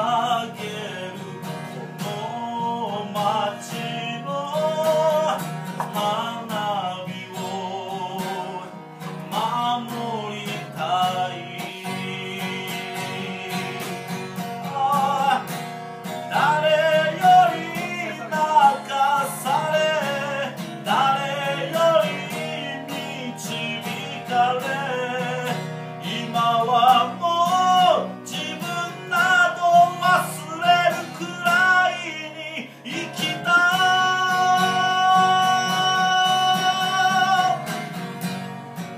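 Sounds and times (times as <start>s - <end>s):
man singing a ballad: 0.0s - 38.0s
acoustic guitar: 0.0s - 38.9s.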